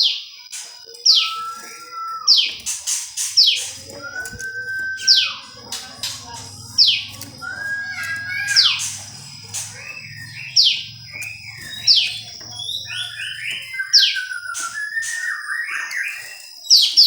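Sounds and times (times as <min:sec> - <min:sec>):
songbird calling: 0:00.9 - 0:17.0
bird whistle: 0:01.0 - 0:17.0.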